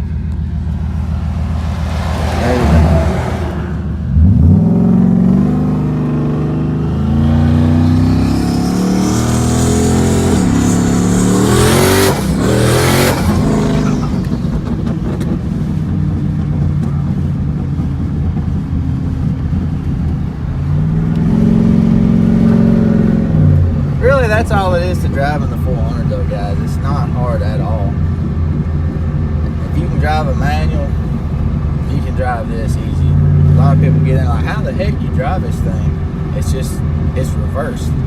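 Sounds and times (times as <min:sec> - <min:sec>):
car engine pulling: 0:00.0 - 0:38.0
high turbo whine: 0:00.0 - 0:38.0.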